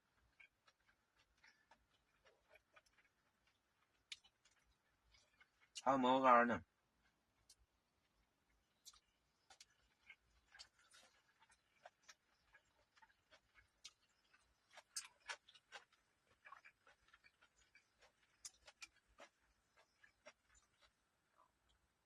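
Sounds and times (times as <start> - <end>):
person eating: 0.0 - 5.8, 6.9 - 22.0.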